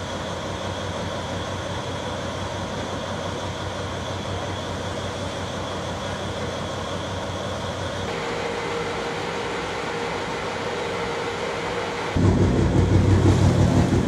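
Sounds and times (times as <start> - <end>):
boat engine low hum: 0.0 - 14.0
churning wake rushing: 0.1 - 14.0
steady higher hum: 2.7 - 14.0.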